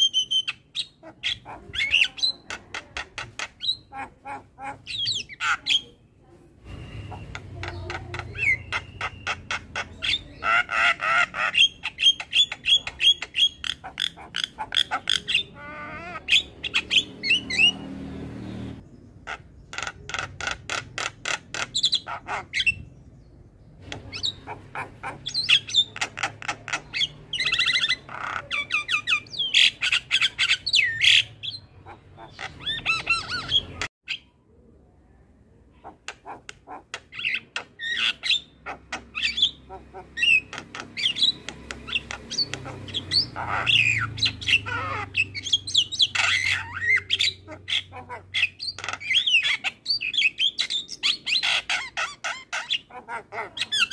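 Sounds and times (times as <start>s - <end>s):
myna chattering and squawking: 0.0s - 18.0s, 19.2s - 34.3s, 35.6s - 53.9s.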